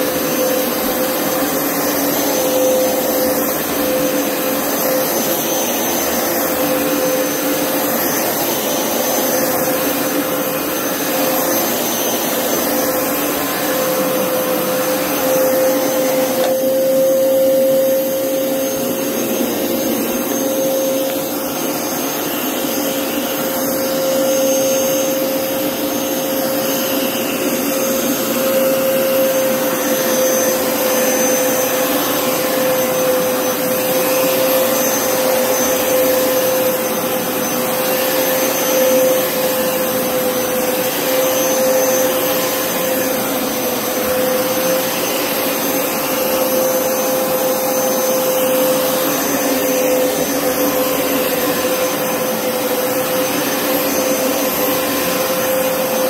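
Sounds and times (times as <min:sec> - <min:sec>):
carpet washer motor drone: 0:00.0 - 0:56.0.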